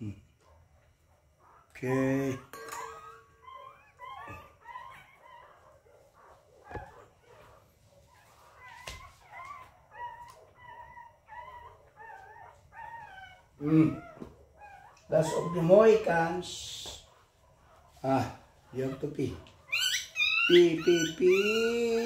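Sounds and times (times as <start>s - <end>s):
puppies whining: 1.4s - 22.0s.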